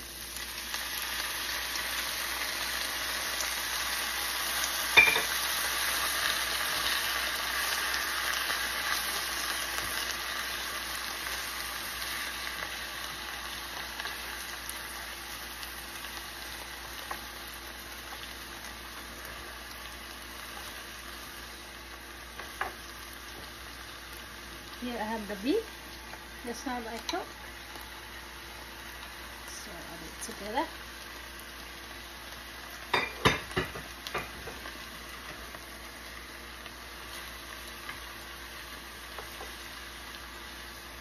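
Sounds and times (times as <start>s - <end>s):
noodles sizzling in a frying pan: 0.0s - 41.0s.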